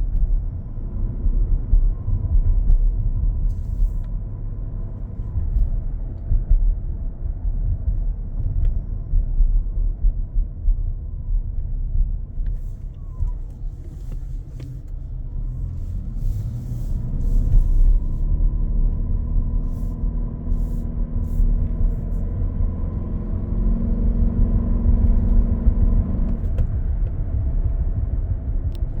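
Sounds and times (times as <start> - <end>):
road rumble inside car: 0.0 - 29.0.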